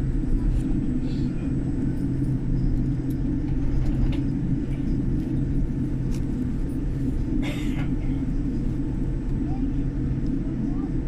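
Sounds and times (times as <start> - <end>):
airliner cabin rumble and hum: 0.0 - 11.0.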